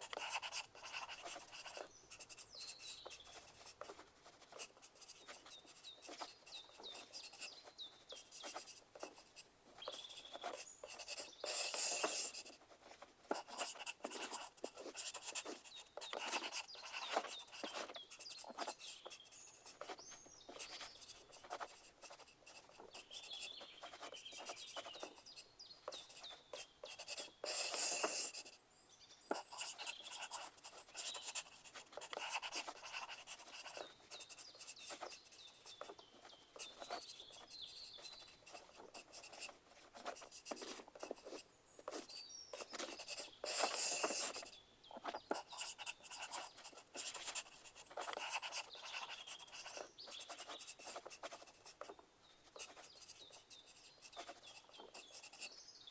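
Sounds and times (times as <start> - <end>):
pencil scratching on paper: 0.0 - 28.6, 29.3 - 55.5.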